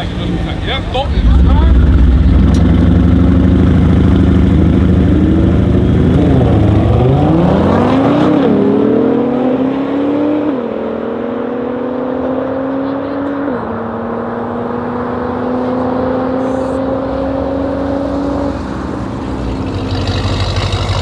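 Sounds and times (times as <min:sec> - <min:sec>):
car engines revving and accelerating: 0:00.0 - 0:21.0.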